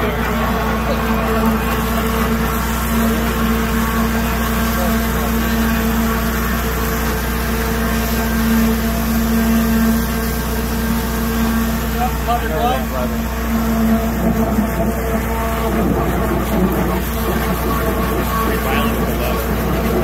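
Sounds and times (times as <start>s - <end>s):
grinder pump motor hum: 0.0s - 20.0s.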